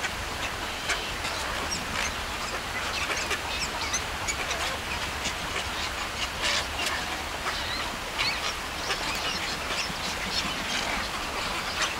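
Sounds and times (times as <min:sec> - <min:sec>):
waterbirds calling: 0:00.0 - 0:11.9.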